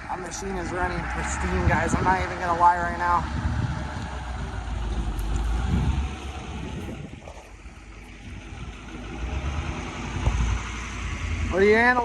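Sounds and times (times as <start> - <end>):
wind buffeting microphone: 0.0 - 11.9
machine engine rumbling: 0.0 - 12.0.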